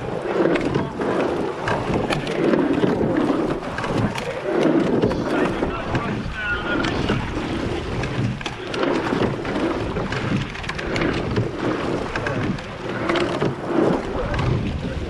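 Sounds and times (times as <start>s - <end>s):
water rushing and splashing: 0.0s - 15.0s
wind buffeting microphone: 0.0s - 15.0s.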